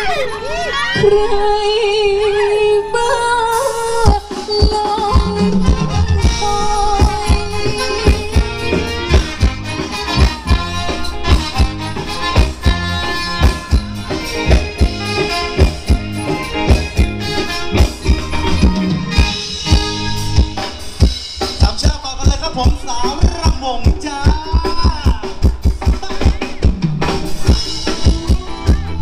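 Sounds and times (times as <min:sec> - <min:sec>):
live band dance music on loudspeakers: 0:03.5 - 0:29.0
steady drum beat: 0:04.0 - 0:29.0.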